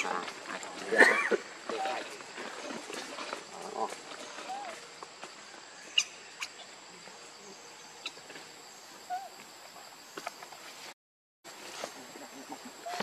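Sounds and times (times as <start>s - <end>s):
high insect drone: 0.0s - 10.8s.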